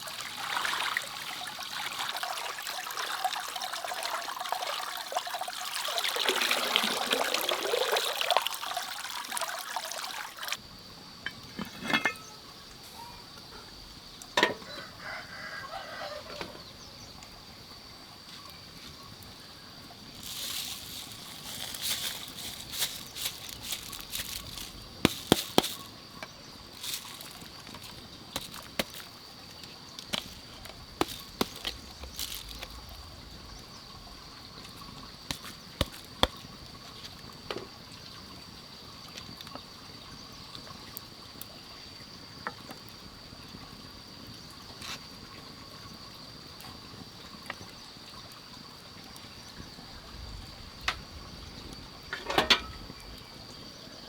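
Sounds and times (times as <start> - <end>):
water pouring and trickling: 0.0 - 10.6, 16.2 - 54.0.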